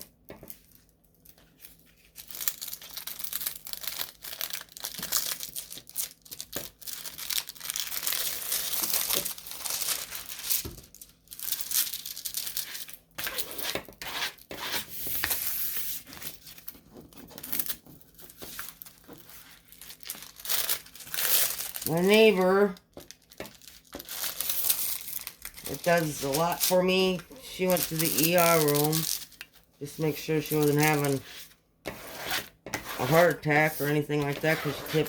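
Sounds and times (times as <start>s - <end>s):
packaging tearing and crinkling: 1.5s - 13.7s, 15.1s - 31.6s.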